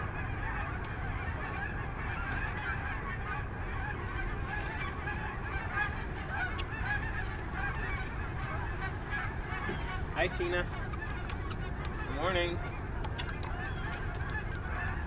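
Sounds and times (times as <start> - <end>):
poultry honking calls: 0.0 - 15.0
steady low rumble: 0.0 - 15.0.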